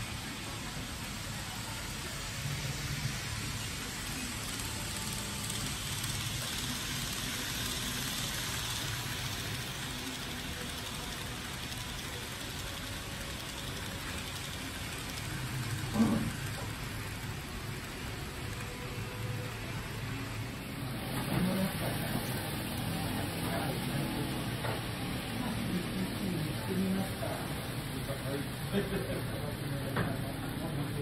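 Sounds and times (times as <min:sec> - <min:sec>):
model train running on track: 0:00.0 - 0:31.0.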